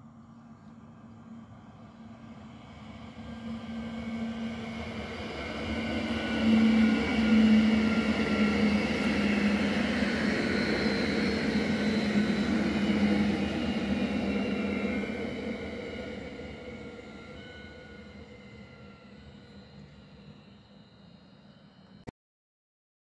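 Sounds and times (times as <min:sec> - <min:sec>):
electric train running past: 0:00.0 - 0:22.1
steady whining tones: 0:00.0 - 0:22.1.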